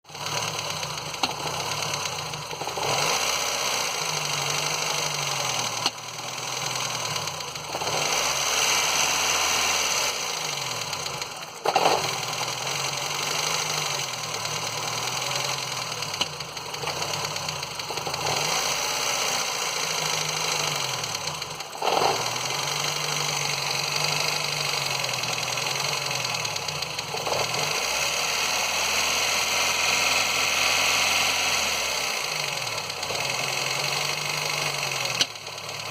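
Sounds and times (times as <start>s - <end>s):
car engine revving: 0.1s - 35.9s.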